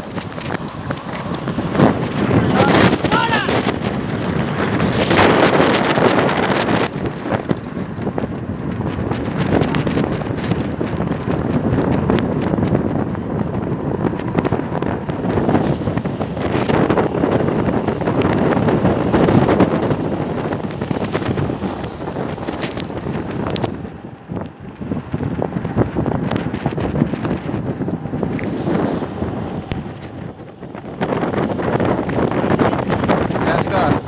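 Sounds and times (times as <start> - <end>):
bike clicks and rattles: 0.0 - 2.8, 3.6 - 33.4
wind rushing over microphone: 0.0 - 34.0.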